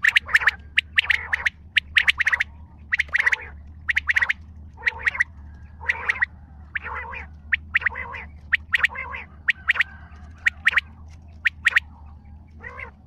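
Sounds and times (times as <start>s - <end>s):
quail calling: 0.0s - 13.0s
steady low hum: 0.0s - 13.0s.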